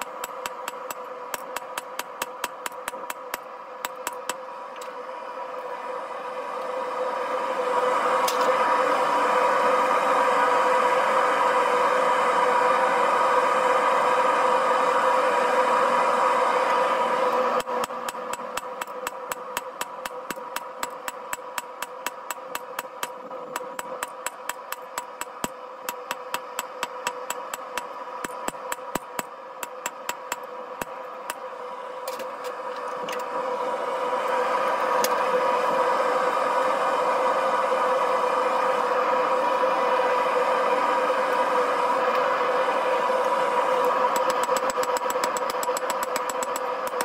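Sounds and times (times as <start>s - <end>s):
forge burner roar: 0.0s - 47.0s.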